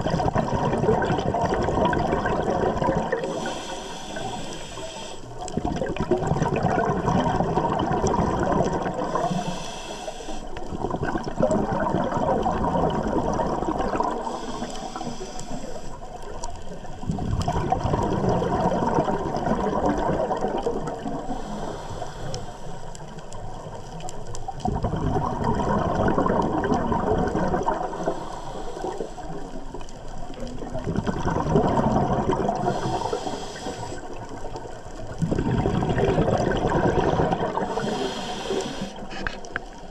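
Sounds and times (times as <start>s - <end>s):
exhaled bubbles rushing underwater: 0.0s - 39.9s.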